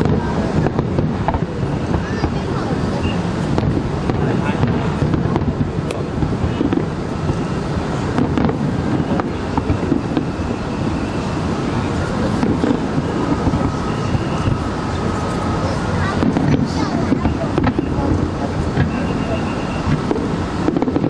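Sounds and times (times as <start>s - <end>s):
faint murmur: 0.0s - 21.0s
wind rumble on microphone: 0.0s - 21.0s.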